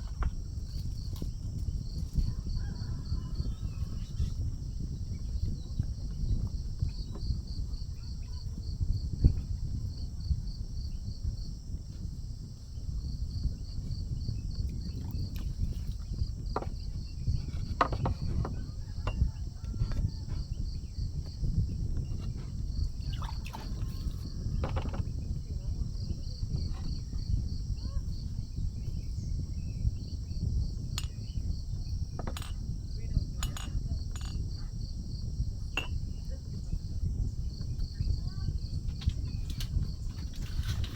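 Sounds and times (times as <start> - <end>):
insects chirping: 0.0 - 40.9
steady low rumble: 3.5 - 40.9.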